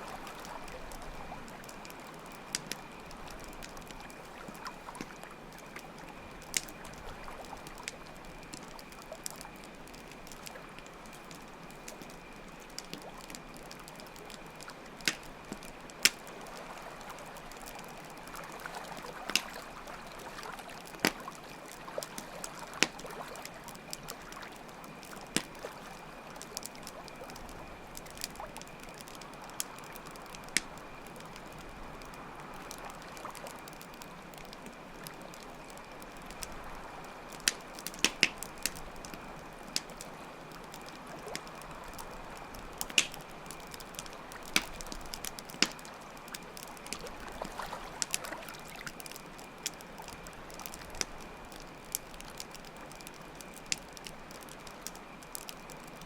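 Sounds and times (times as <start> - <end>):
campfire crackling: 0.0 - 56.0
fire popping: 0.0 - 56.0
trickling water: 0.0 - 56.0.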